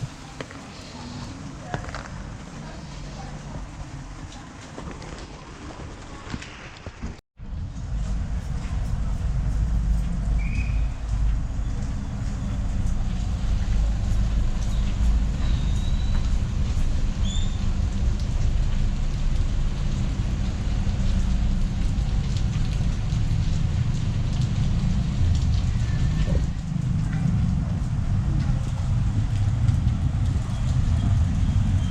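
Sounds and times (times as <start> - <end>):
rain falling: 0.0 - 31.9
traffic rumble: 0.0 - 31.9.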